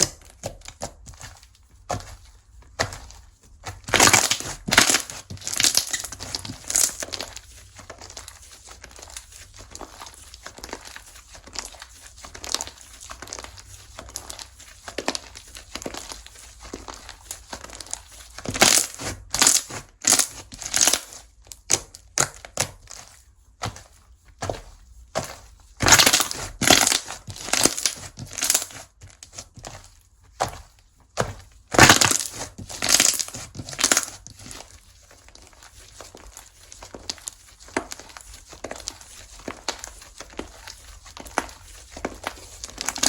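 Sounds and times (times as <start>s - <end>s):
slime crackling: 0.0s - 43.0s.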